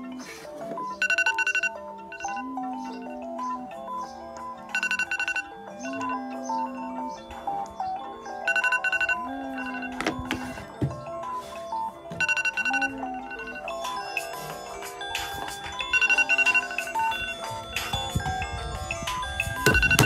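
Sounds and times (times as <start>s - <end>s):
mobile phone ringtone melody: 0.0s - 20.0s.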